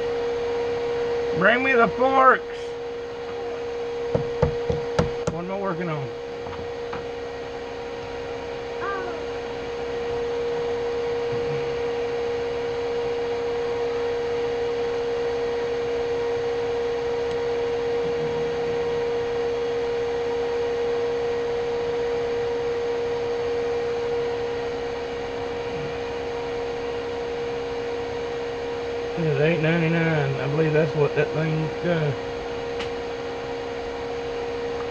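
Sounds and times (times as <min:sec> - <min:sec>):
electric motor humming: 0:00.0 - 0:22.6, 0:23.2 - 0:34.9.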